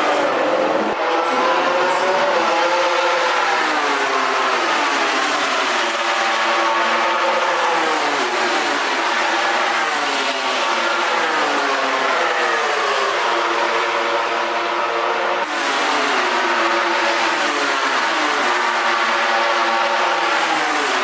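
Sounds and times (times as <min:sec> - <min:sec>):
race bike engine revving: 0:00.0 - 0:21.0.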